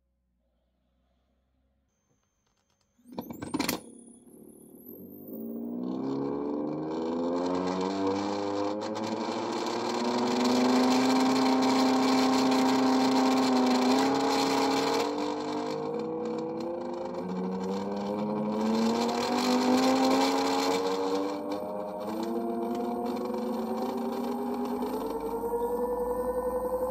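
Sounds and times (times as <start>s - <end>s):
electric motor whine: 3.1s - 26.9s.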